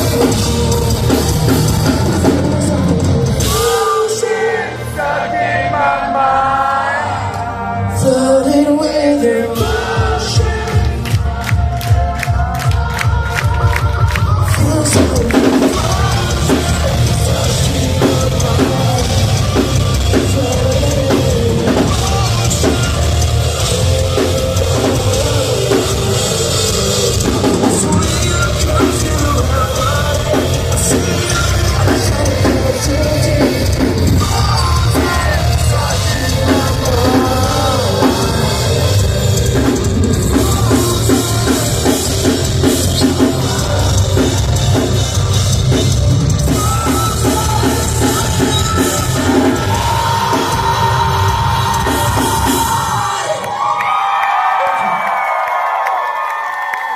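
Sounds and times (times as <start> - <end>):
pounding drum kit: 0.0 - 5.9, 9.1 - 53.8
live rock band: 0.0 - 56.9.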